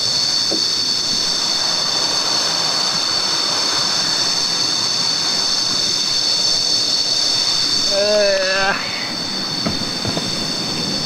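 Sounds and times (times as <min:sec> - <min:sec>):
high-pitched jungle insects drone: 0:00.0 - 0:11.0.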